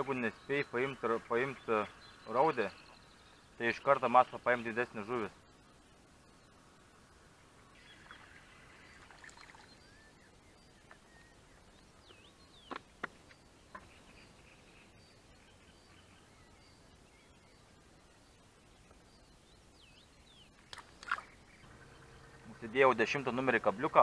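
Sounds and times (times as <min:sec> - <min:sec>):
birds twittering: 0:00.0 - 0:24.0.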